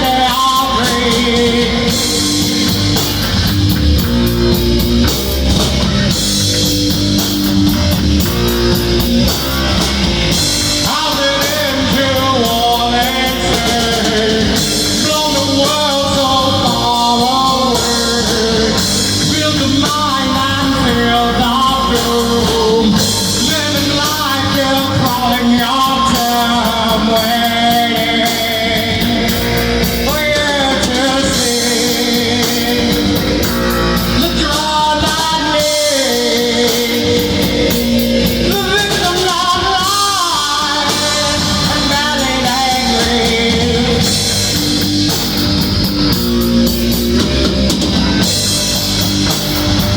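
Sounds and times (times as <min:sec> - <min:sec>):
rock band playing: 0:00.0 - 0:49.9.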